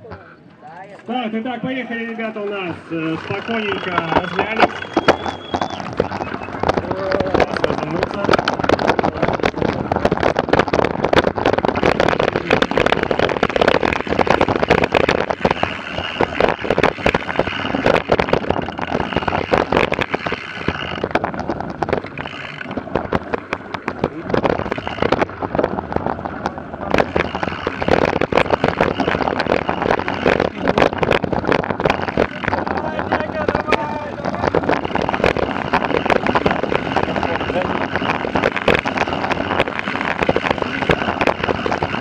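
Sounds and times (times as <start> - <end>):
bike tyres on gravel: 1.0 - 42.0.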